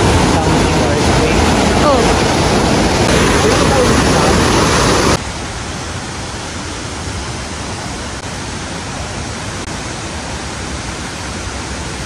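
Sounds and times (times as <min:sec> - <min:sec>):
stream cascading over boulders: 0:00.0 - 0:12.0.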